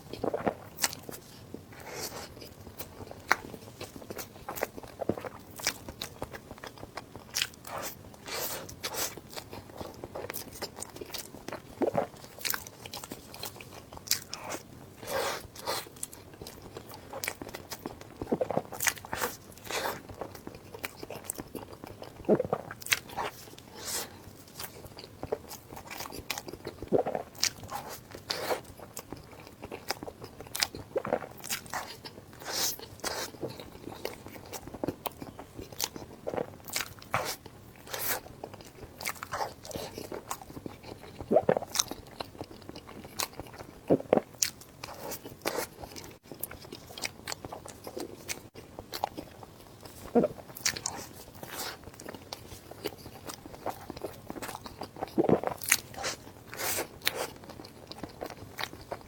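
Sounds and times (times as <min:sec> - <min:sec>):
crunchy chewing: 0:00.1 - 0:59.0.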